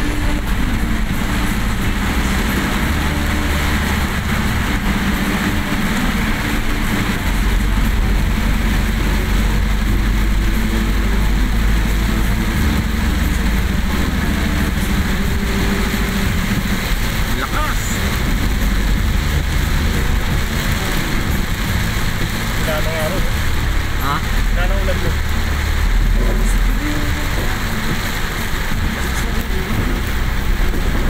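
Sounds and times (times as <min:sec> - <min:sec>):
car engine rumble: 0:00.0 - 0:31.0
heavy rain on car roof: 0:00.0 - 0:31.0
tyres on wet road: 0:00.0 - 0:31.0.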